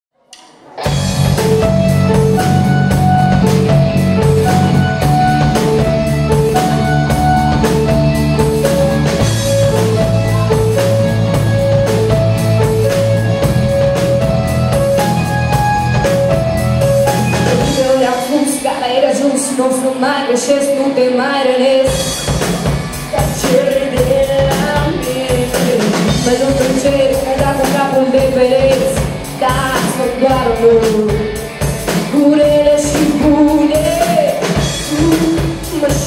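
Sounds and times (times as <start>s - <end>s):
rock band playing: 0.4s - 36.0s.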